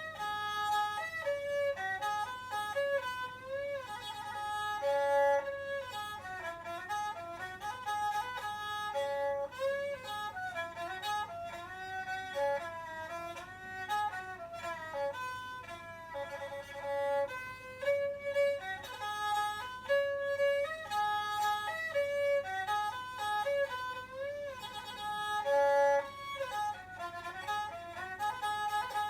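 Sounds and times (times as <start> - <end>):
bowed fiddle solo melody: 0.0 - 29.0.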